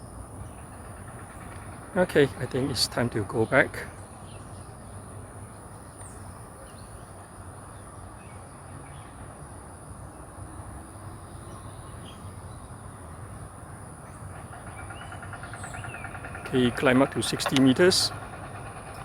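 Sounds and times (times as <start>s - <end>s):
constant high-pitched tone: 0.0s - 19.0s.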